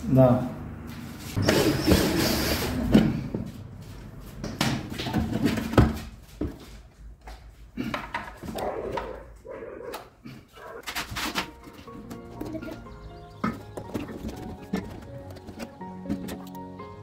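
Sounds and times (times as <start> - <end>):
rustling and scraping: 0.9 - 9.5, 10.5 - 16.6.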